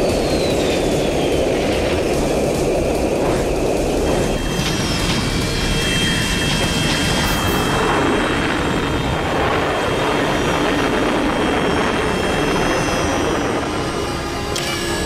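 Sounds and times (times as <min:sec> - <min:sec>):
jet thruster rushing: 0:00.0 - 0:14.9.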